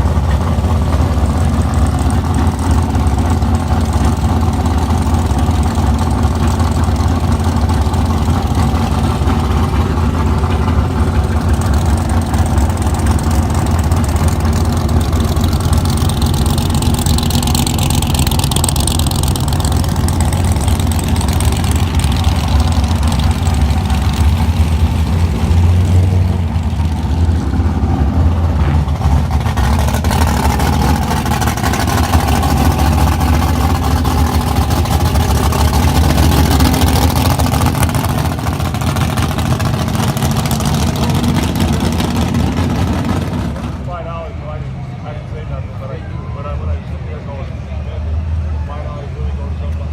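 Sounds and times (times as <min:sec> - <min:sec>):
car engines idling: 0:00.0 - 0:49.9.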